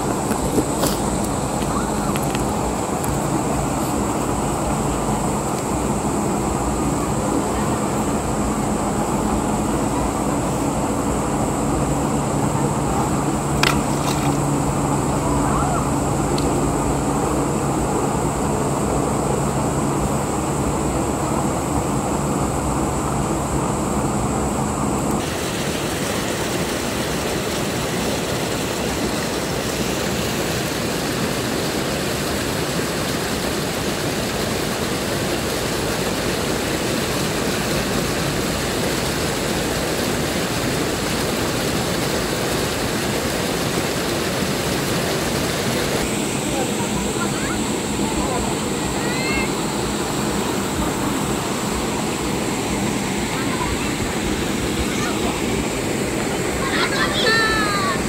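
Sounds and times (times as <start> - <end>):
river water running over stones: 0.0 - 24.2, 24.8 - 58.0.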